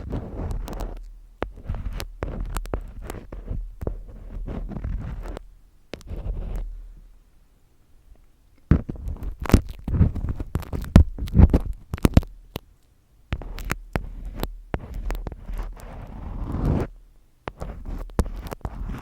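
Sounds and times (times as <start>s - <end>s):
muffled rubbing against microphone: 0.0s - 7.0s, 8.7s - 12.3s, 13.3s - 19.0s.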